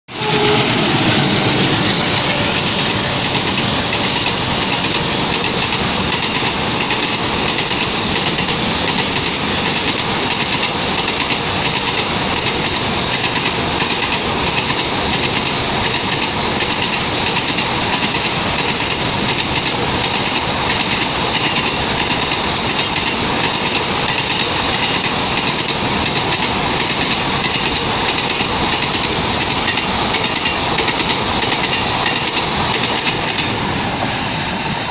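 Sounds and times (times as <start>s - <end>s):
freight train wheels rumbling: 0.1s - 34.9s.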